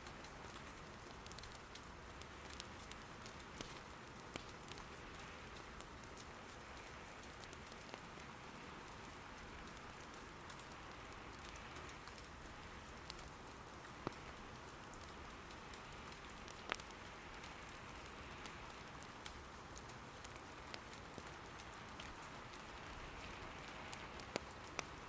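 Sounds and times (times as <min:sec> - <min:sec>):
soft rain patter: 0:00.0 - 0:25.0
wood fire crackling: 0:00.0 - 0:25.0.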